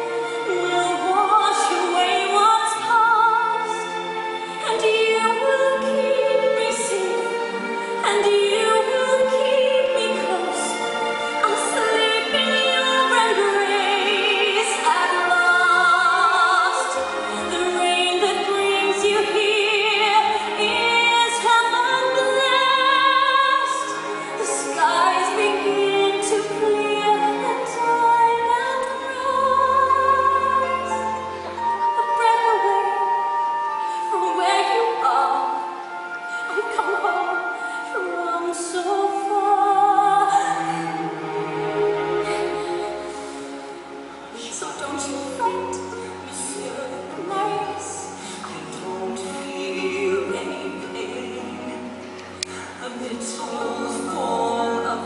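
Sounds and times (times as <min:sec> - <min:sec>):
orchestral accompaniment: 0:00.0 - 0:55.0.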